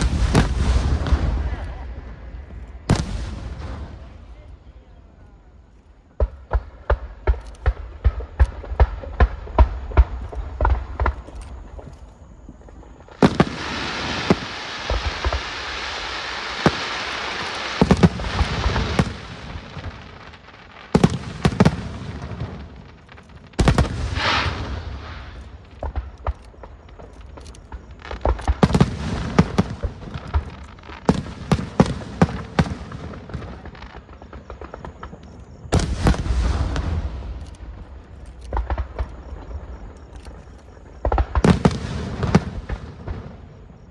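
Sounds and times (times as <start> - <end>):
fireworks bangs and booms: 0.0 - 43.9
fireworks crackling and hissing: 0.0 - 43.9.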